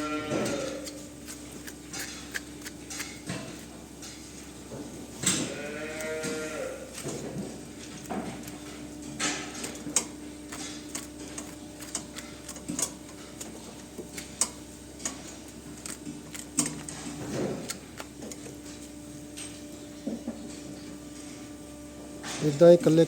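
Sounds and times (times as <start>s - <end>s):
hoof trimming clicks and scrapes: 0.0s - 21.6s.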